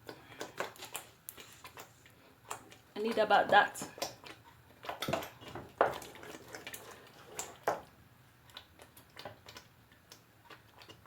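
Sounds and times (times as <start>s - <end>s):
sauce plopping while stirred: 0.0s - 11.0s.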